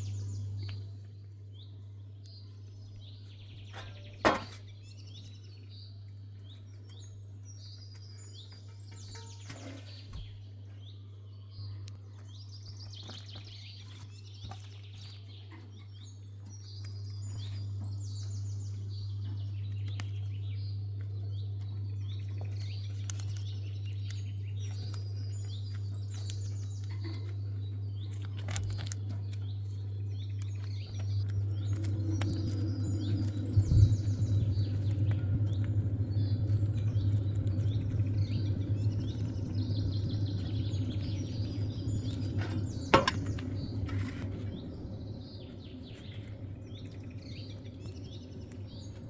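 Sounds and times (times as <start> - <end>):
small birds chirping: 0.0 - 49.0
steady low hum: 0.0 - 49.0.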